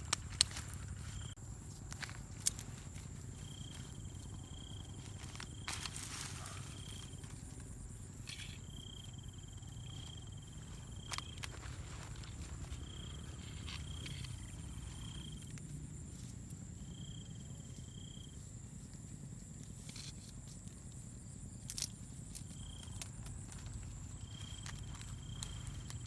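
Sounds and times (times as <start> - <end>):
insect trill: 0.0 - 26.0
insects high whine: 0.0 - 26.0.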